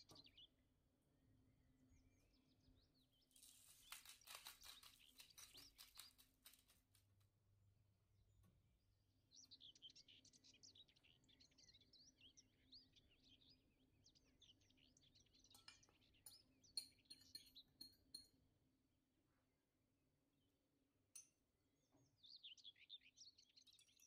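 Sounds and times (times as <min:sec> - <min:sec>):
faint birdsong chirps: 0:00.0 - 0:24.0.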